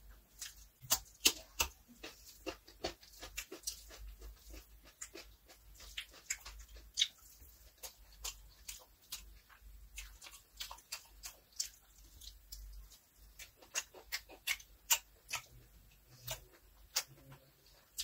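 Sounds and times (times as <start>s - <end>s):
fingers mixing rice: 0.0s - 18.0s
wet chewing and lip smacks: 0.4s - 18.0s.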